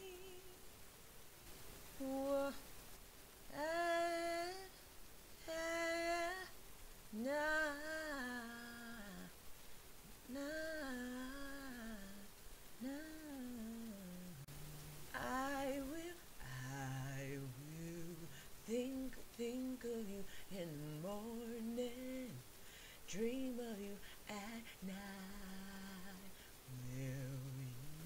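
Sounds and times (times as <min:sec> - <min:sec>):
woman humming and singing: 0:00.0 - 0:00.6, 0:02.0 - 0:02.6, 0:03.5 - 0:06.6, 0:07.2 - 0:09.3, 0:10.1 - 0:22.4, 0:23.1 - 0:28.0.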